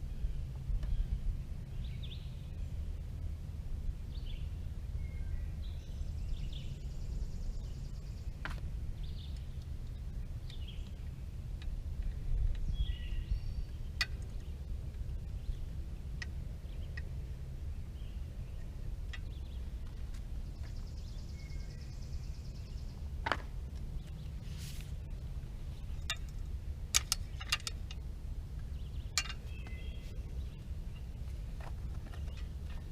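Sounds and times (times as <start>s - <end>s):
birds chirping: 0.0s - 3.0s, 4.0s - 32.9s
low background rumble: 0.0s - 32.9s.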